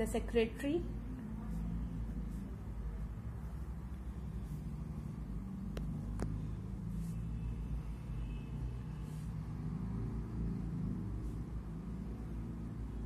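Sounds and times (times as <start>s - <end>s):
low background rumble: 0.0s - 13.0s
pen scratching on paper: 1.2s - 12.4s.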